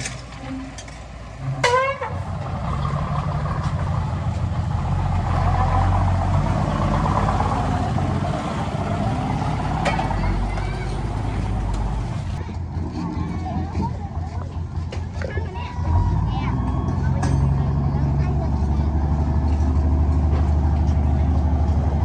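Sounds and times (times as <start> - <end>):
diesel machinery engine running: 0.0 - 22.0.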